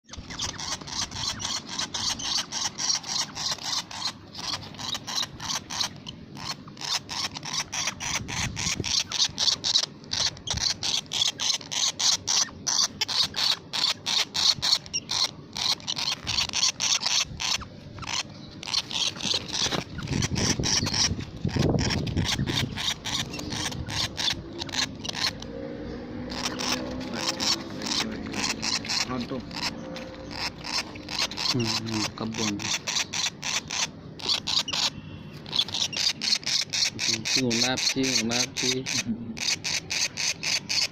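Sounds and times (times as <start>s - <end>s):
lovebird chirping: 0.0s - 40.9s.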